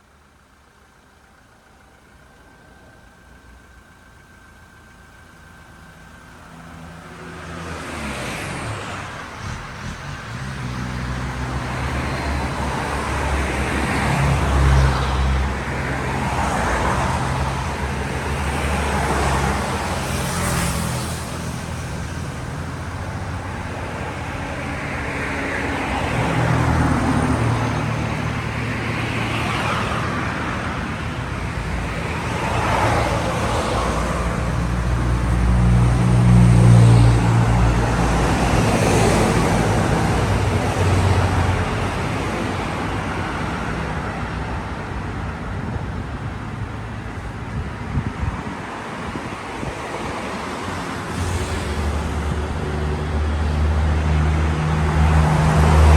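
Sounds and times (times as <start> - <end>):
road traffic noise: 0.0 - 55.9.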